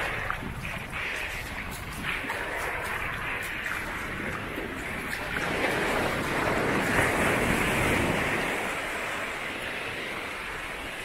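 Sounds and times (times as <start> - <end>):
wave breaking on beach: 0.0 - 11.0.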